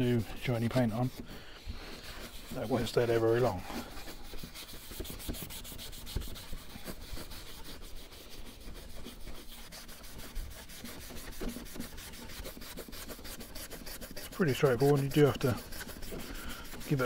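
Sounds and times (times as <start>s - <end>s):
scouring pad scrubbing wheel trim: 0.0s - 17.0s.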